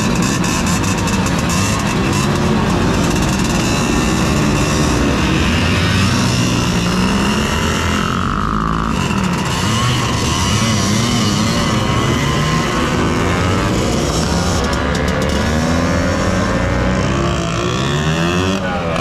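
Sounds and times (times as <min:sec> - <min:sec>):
scooter engines revving: 0:00.0 - 0:19.0.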